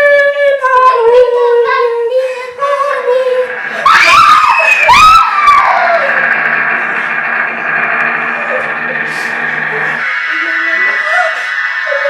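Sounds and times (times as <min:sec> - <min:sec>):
high-pitched wailing scream: 0:02.2 - 0:12.0.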